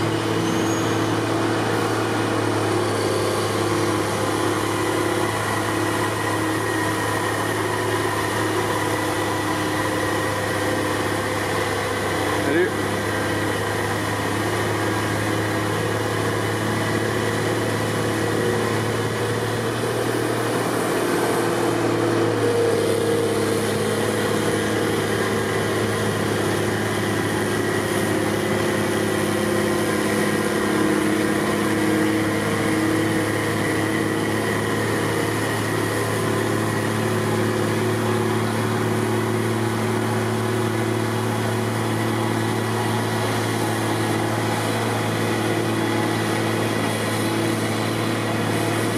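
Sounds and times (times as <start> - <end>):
heavy machinery engine hum: 0.0 - 48.9.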